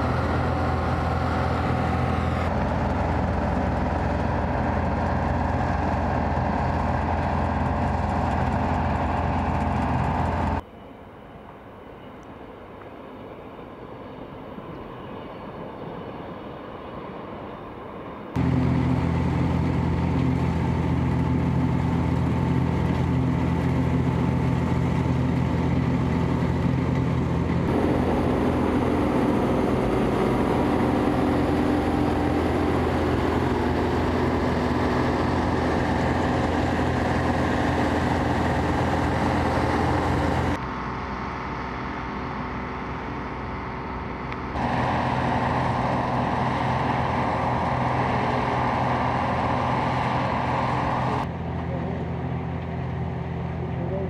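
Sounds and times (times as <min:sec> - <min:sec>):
combine harvester engine droning: 0:00.0 - 0:10.6, 0:18.4 - 0:54.0.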